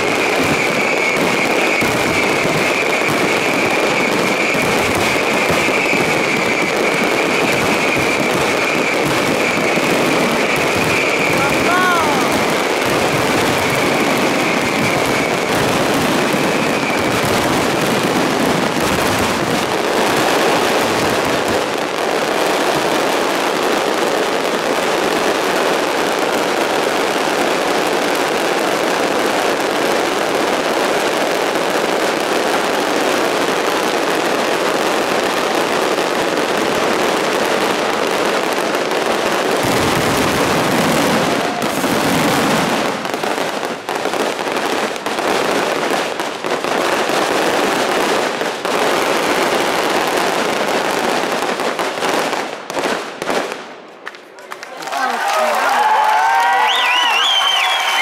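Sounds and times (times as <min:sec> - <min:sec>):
deep fireworks booms: 0:00.0 - 0:53.9
fireworks bursting and crackling: 0:00.0 - 0:58.0.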